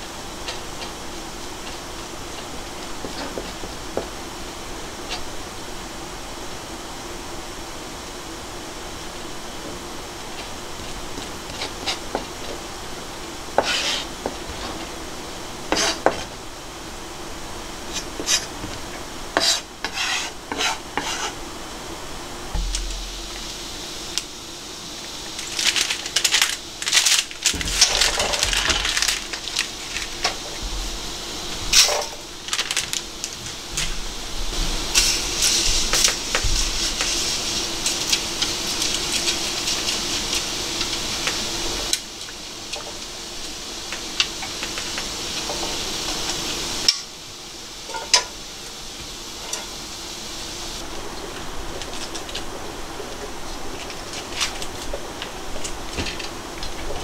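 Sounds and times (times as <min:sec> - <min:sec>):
water boiling: 0:00.0 - 0:57.0.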